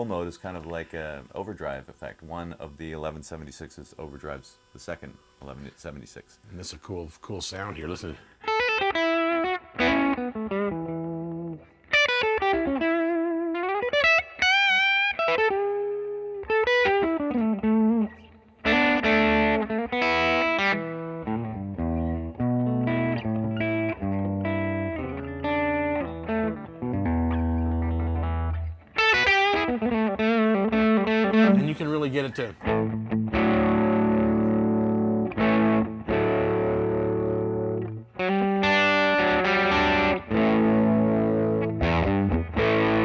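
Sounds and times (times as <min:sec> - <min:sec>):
overdriven electric guitar: 0:08.3 - 0:43.0.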